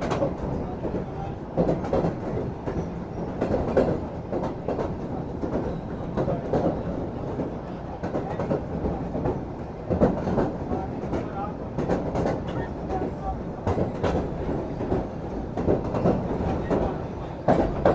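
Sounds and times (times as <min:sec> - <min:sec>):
train carriage rumbling: 0:00.0 - 0:17.9.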